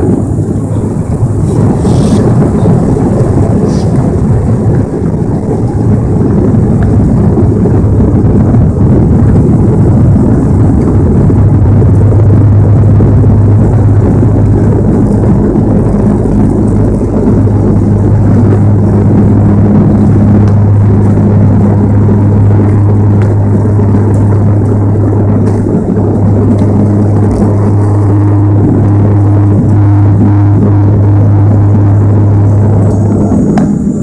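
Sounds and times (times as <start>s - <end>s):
turboprop airliner engines roaring: 0.0s - 34.0s.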